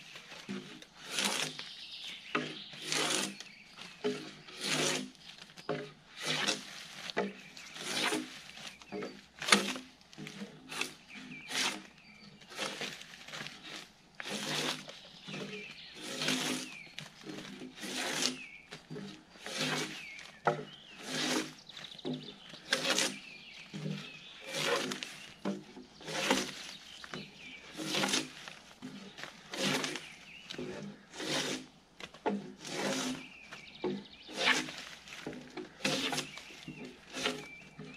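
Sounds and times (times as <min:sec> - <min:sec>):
drawknife rasping along a log: 0:00.3 - 0:37.9.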